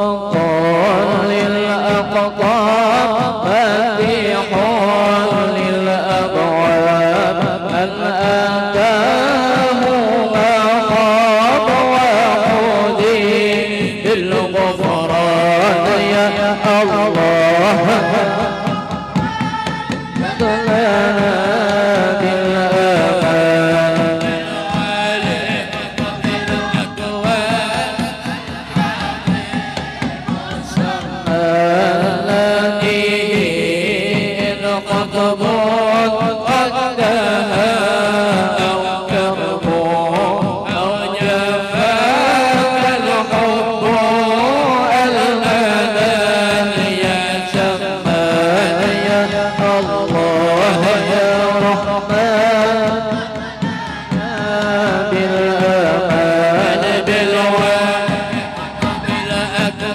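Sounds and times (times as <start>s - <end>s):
men chanting devotional hymn: 0.0s - 59.9s.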